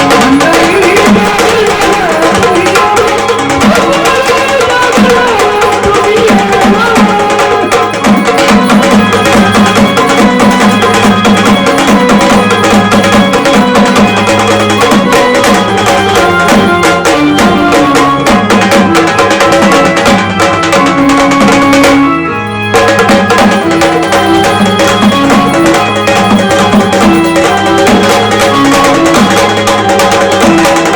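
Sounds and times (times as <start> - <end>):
drums in fast rhythm: 0.0 - 30.9
electric organ chords: 0.0 - 30.9.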